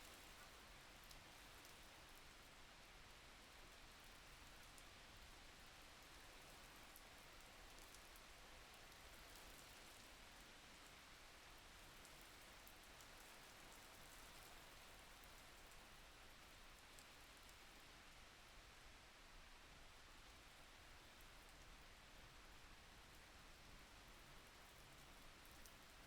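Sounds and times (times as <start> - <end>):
faint rain falling: 0.0 - 26.0.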